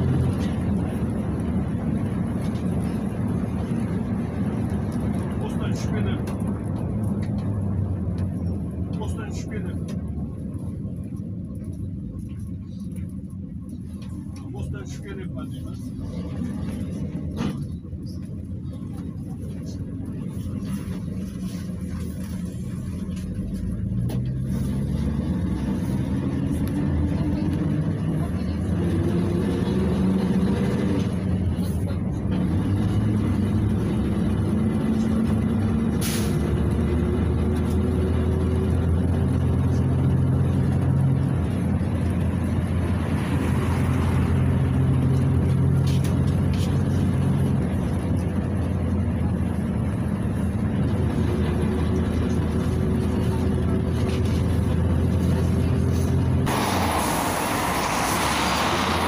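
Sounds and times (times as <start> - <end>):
bus engine accelerating: 0.0 - 59.0.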